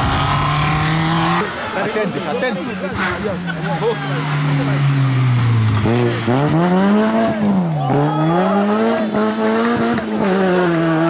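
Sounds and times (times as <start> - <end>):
car engine revving hard: 0.0 - 2.0, 2.8 - 11.0.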